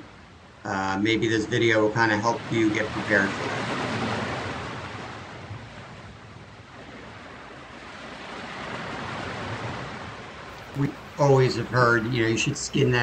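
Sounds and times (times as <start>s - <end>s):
ocean surf washing: 0.0s - 13.0s.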